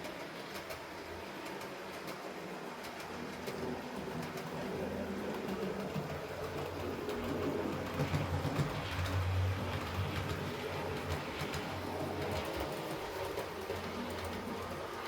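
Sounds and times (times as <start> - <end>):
faint clicking from rails: 0.0 - 15.0
model train motor and wheel hum: 0.0 - 15.0.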